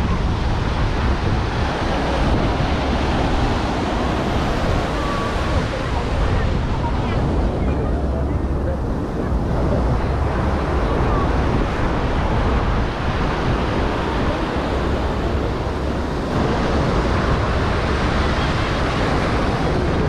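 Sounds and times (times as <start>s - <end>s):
ocean surf on sandy beach: 0.0s - 20.0s
wind buffeting microphone: 0.0s - 20.0s.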